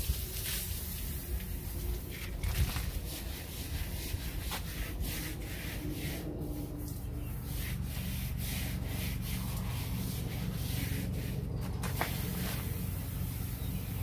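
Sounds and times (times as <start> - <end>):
hose spray hissing on boat hull: 0.0 - 14.0.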